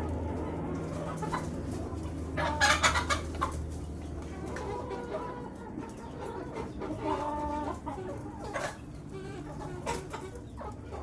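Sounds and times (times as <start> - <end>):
chickens clucking: 0.8 - 11.0.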